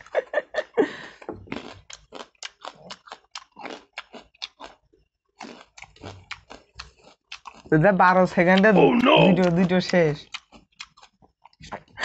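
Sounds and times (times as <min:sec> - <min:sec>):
onion crunching while chewed: 0:01.5 - 0:11.7.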